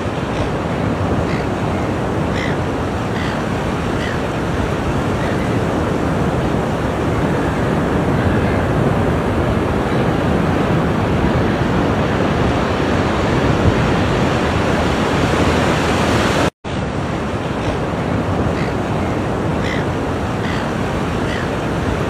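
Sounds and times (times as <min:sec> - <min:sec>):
ocean waves on shore: 0:00.0 - 0:22.0.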